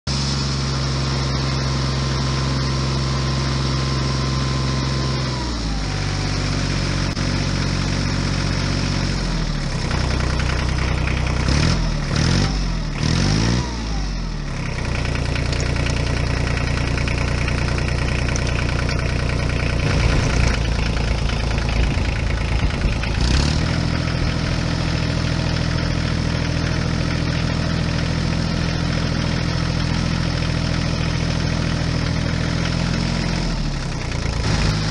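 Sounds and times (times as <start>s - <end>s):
tractor engine idling: 0.1s - 13.0s, 14.1s - 34.9s.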